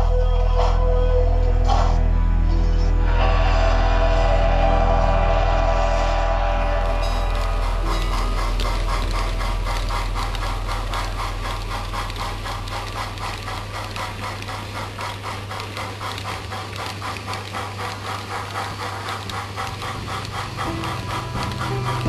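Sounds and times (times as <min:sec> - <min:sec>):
model locomotive chuffing: 0:03.1 - 0:22.0.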